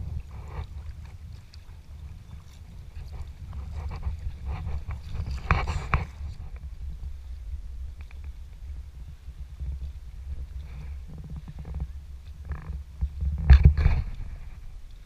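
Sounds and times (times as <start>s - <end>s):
paddle splashing and knocking: 0.0s - 15.0s
water sloshing against kayak hull: 0.0s - 15.0s.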